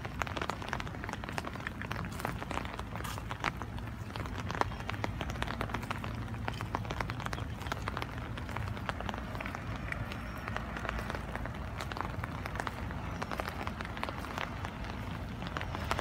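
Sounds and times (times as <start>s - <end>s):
rain patter on plants: 0.0s - 16.0s.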